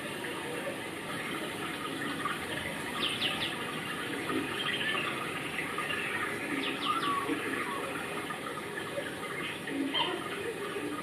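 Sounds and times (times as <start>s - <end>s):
small birds chirping: 1.1s - 11.0s.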